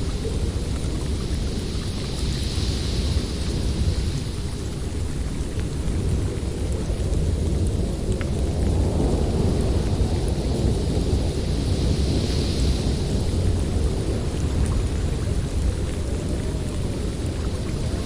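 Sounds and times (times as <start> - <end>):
blizzard wind through forest: 0.0 - 18.0.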